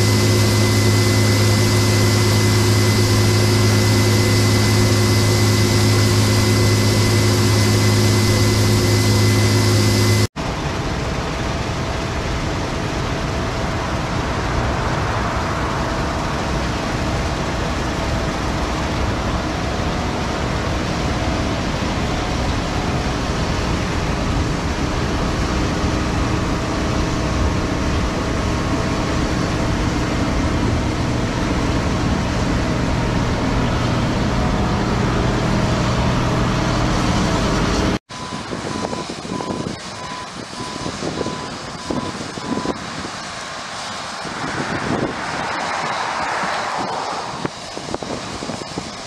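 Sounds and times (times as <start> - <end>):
combine harvester running: 0.0 - 49.0.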